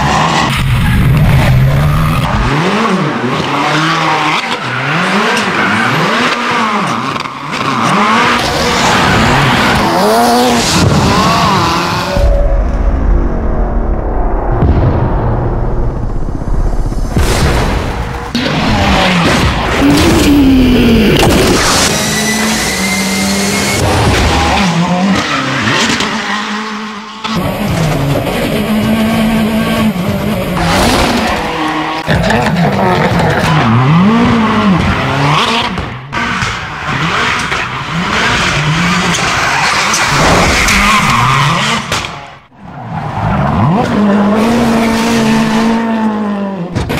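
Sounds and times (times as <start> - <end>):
rally car engine revving: 0.0 - 12.4, 17.1 - 46.9.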